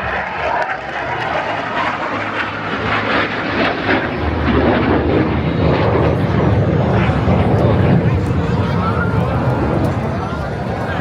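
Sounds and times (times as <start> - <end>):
fighter jet flying past: 0.0 - 11.0.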